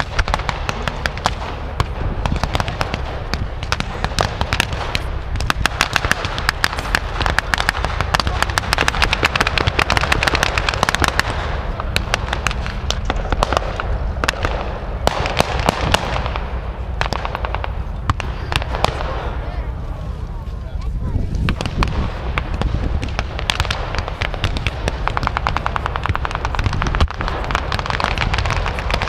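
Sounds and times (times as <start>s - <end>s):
gunfire cracks: 0.0s - 19.4s, 21.3s - 29.0s
low rumble: 0.0s - 29.0s.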